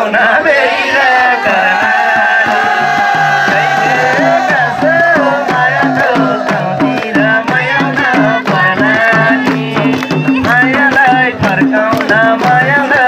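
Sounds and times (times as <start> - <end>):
quick hand-drum rhythm: 0.1 - 13.0.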